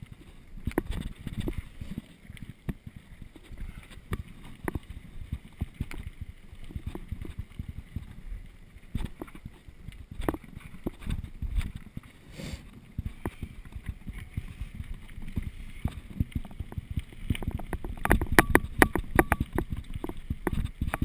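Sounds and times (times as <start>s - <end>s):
bike rolling over rough trail: 0.0s - 21.0s
wind on microphone: 0.0s - 21.0s.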